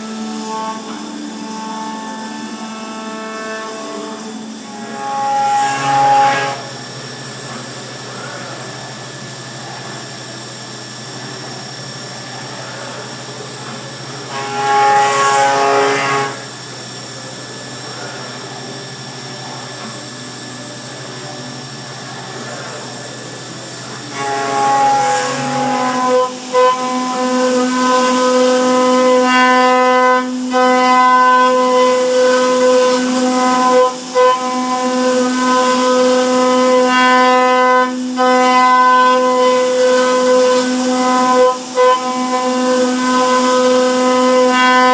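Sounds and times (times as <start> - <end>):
high whine of cutter: 0.0 - 44.9.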